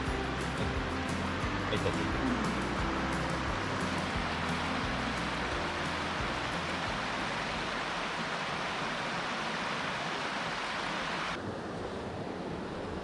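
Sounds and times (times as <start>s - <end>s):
stream water rushing: 0.0s - 11.4s.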